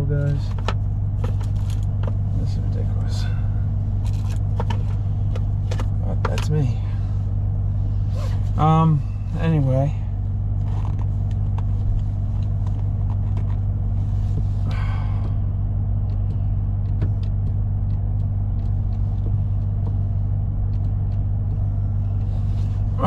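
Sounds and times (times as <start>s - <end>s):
pickup truck engine idling: 0.0s - 23.0s.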